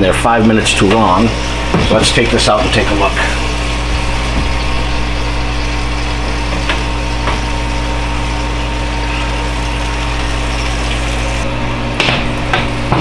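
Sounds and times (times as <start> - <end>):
oven fan humming: 0.0 - 13.0.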